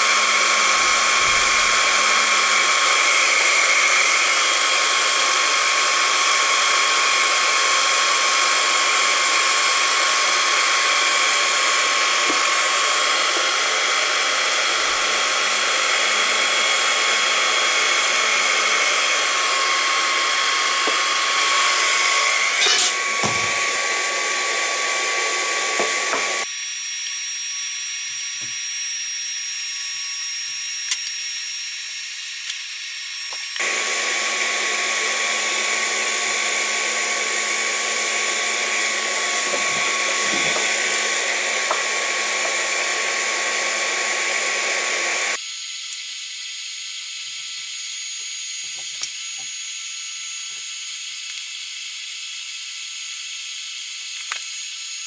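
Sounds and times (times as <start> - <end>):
hot-air gun blower whining: 0.0 - 55.0.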